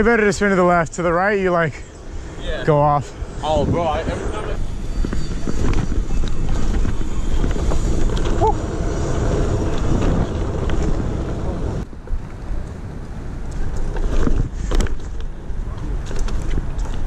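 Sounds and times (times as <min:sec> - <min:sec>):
rolling street noise: 0:00.0 - 0:17.0
wind buffeting microphone: 0:00.0 - 0:17.0.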